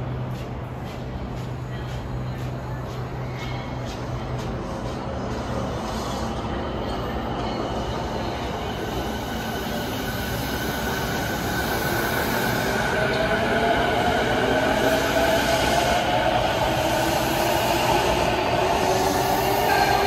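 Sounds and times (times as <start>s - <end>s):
electric train wheels rumbling: 0.0s - 20.0s.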